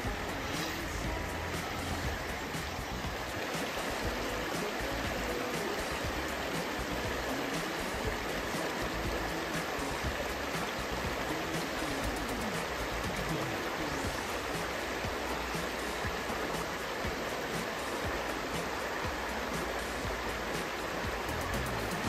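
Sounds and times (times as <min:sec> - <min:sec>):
stream flowing over stones: 0:00.0 - 0:22.0.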